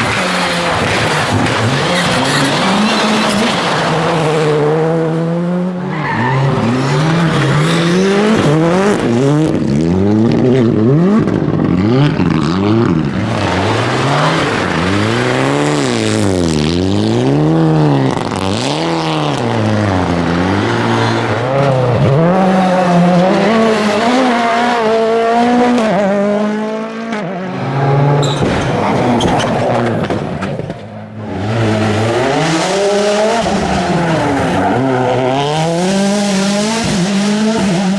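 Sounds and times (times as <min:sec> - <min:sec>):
rally car engine at full throttle: 0:00.0 - 0:37.9
tyre and road noise: 0:00.0 - 0:37.9.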